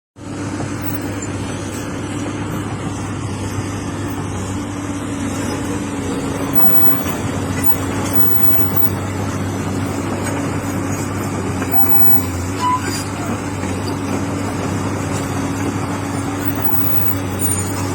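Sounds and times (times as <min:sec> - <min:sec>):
excavator diesel engine humming: 0:00.2 - 0:17.9.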